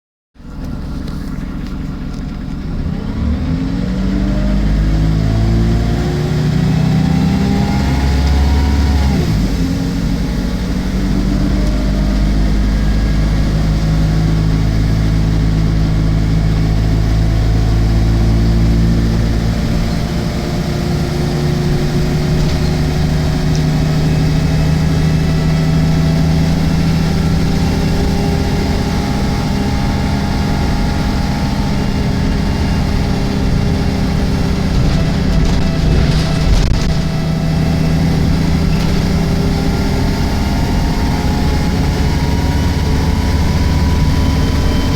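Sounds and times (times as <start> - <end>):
bus diesel engine pulling away: 0.4 - 44.9.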